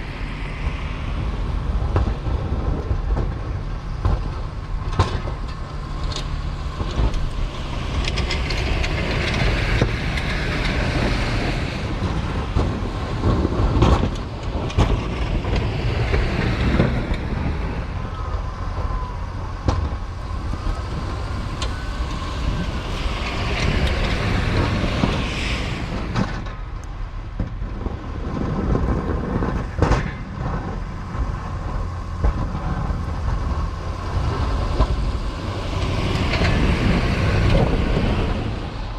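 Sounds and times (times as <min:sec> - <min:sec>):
snow plow rushing and scraping: 0:00.0 - 0:38.9
truck diesel engine rumbling: 0:00.0 - 0:38.9.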